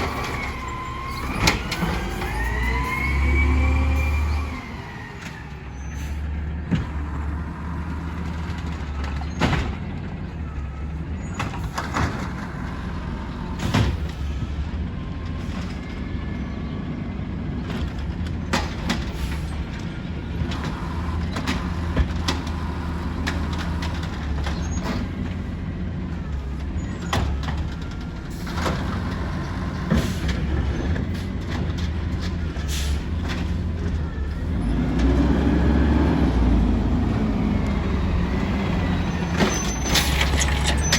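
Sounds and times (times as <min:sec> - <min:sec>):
garbage truck engine running: 0:00.0 - 0:40.9.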